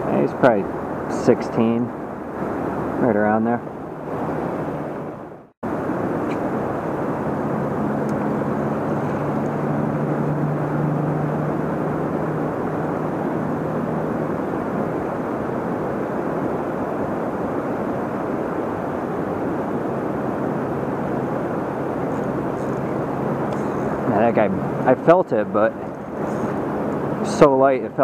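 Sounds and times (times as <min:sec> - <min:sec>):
distant engine drone: 0:00.0 - 0:28.0
river water rushing: 0:03.6 - 0:28.0.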